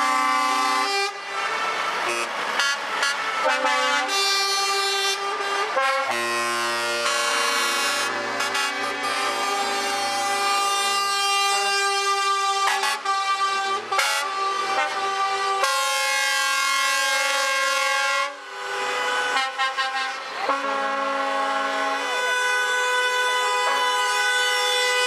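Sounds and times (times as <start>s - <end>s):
truck air horns blasting: 0.0s - 25.0s.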